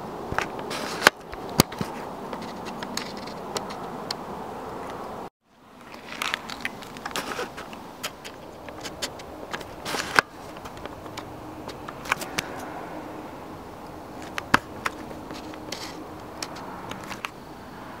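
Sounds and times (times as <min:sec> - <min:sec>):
handling clicks and scuffs: 0:00.3 - 0:05.2, 0:05.8 - 0:12.8, 0:13.8 - 0:17.4.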